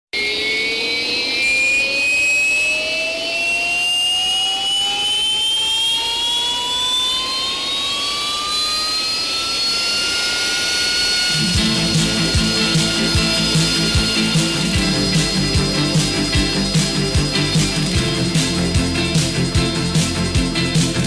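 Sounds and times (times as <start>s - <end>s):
jet engine whine spooling up: 0.1s - 21.0s
higher engine whine: 0.2s - 21.0s.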